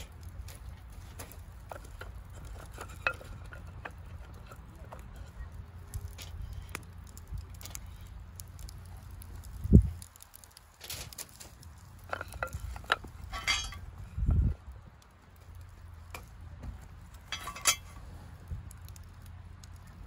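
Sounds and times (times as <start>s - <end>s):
steady low rumble: 0.0s - 10.8s, 11.5s - 20.0s.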